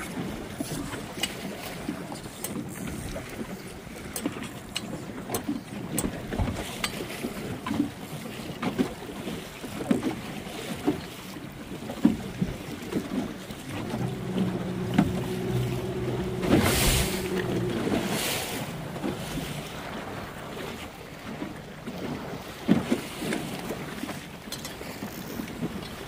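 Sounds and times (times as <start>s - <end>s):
boat hull slapping waves: 0.0s - 26.0s
outboard engine hum: 0.0s - 26.0s.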